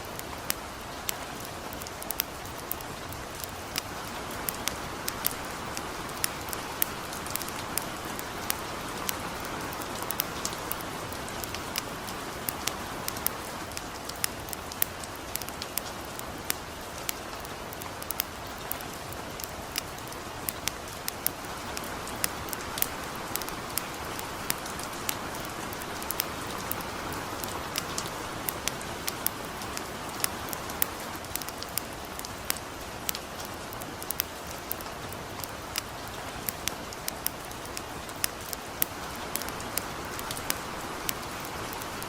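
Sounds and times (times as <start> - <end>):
campfire crackling and popping: 0.0 - 42.0
light rain hissing: 0.0 - 42.0.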